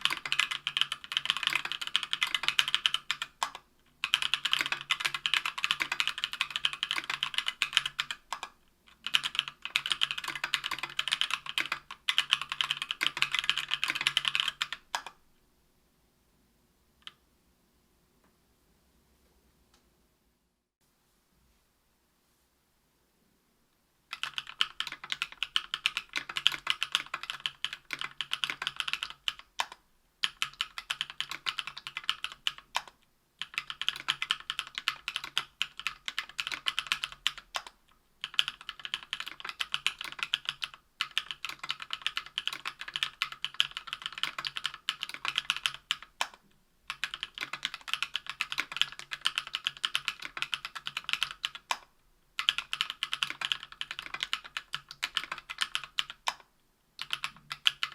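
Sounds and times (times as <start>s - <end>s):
mechanical keyboard typing: 0.0s - 15.2s, 24.1s - 57.9s.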